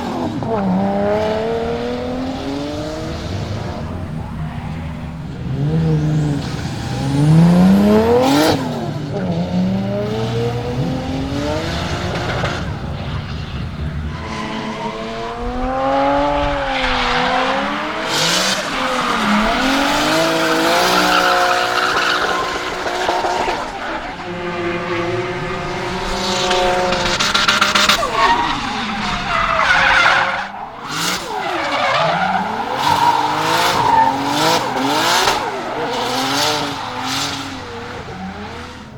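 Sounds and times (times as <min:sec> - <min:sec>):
car engine revving: 0:00.0 - 0:38.9
tyres squealing: 0:00.2 - 0:38.9.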